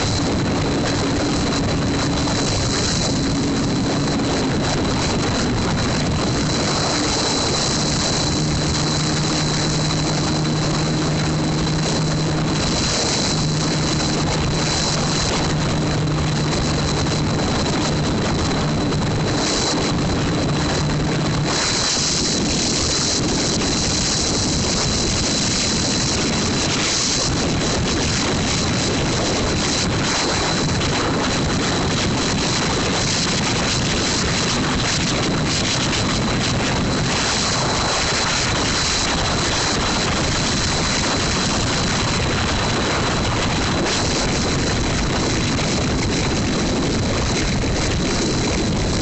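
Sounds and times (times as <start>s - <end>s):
motorcycle engine running: 0.0s - 49.0s
wind on microphone: 0.0s - 49.0s.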